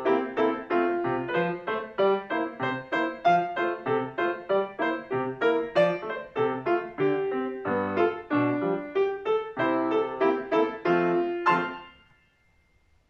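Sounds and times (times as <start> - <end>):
grand piano playing: 0.0 - 12.2.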